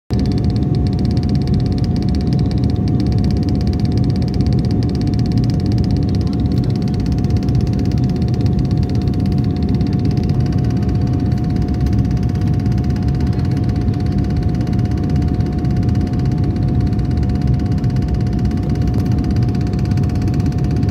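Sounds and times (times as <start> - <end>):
constant whining tone: 0.1 - 20.9
aircraft cabin rumble: 0.3 - 20.9.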